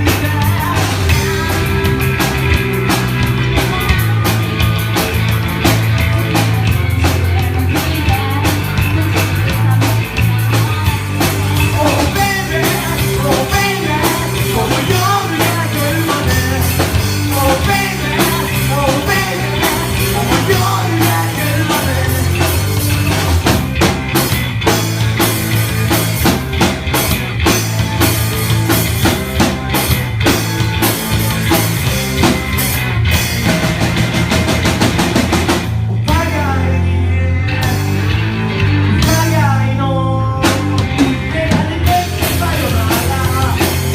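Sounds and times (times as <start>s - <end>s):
drum kit beat: 0.0s - 43.9s
electric bass line: 0.0s - 43.9s.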